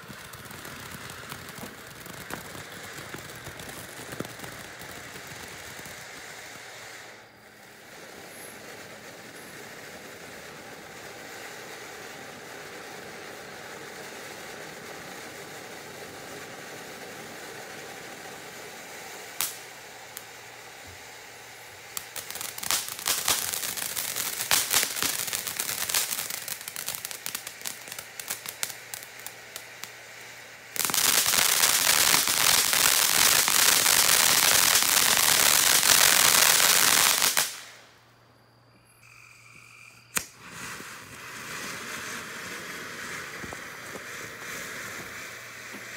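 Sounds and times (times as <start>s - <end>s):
fireworks crackling and popping: 0.0s - 45.9s
fireworks fountain hissing: 0.0s - 45.9s.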